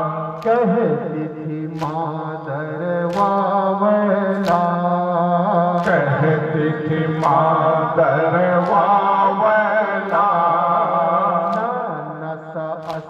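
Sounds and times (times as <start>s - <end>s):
men chanting a lament: 0.0s - 13.0s
rhythmic chest slaps: 0.0s - 13.0s.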